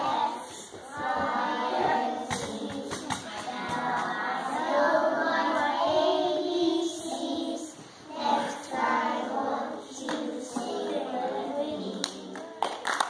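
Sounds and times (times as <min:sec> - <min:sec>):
children singing together: 0:00.0 - 0:12.4.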